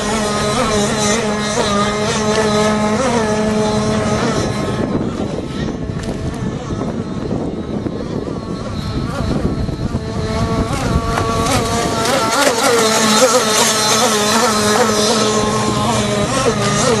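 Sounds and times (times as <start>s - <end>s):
two-stroke speedboat engine: 0.0s - 17.0s.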